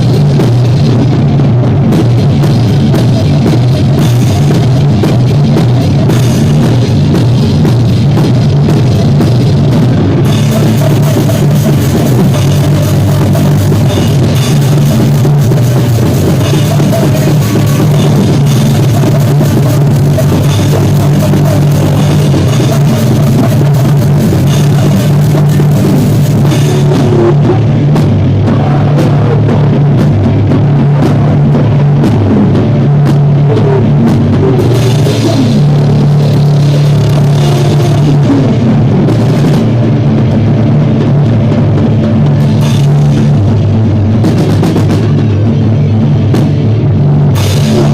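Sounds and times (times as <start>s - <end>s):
bass guitar: 0.0s - 47.9s
distorted electric guitar: 0.0s - 47.9s
drum kit with cymbals: 0.0s - 47.9s.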